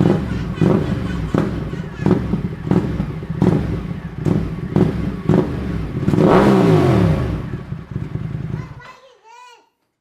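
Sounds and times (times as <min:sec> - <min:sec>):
motorcycle engine throttle blips: 0:00.0 - 0:08.6.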